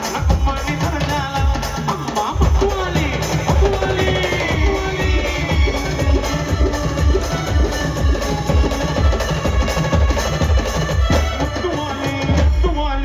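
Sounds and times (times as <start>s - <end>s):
steady drum beat: 0.0s - 13.0s
brass band music: 2.4s - 12.9s.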